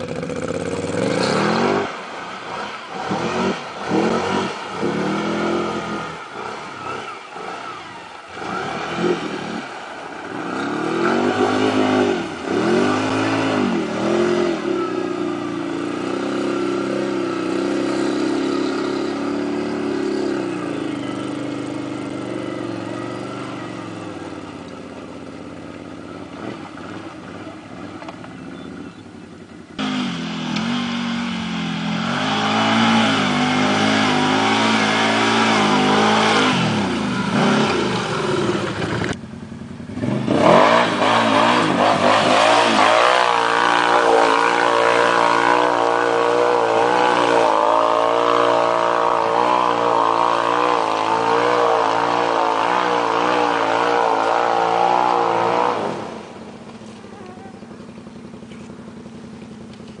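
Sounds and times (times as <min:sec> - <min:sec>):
atv engine revving: 0:00.0 - 1:00.0.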